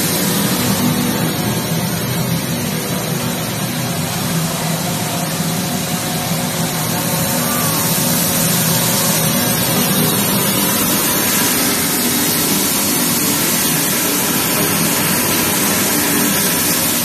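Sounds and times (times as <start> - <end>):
low hum: 0.0 - 16.4
loud machinery noise: 0.0 - 17.0.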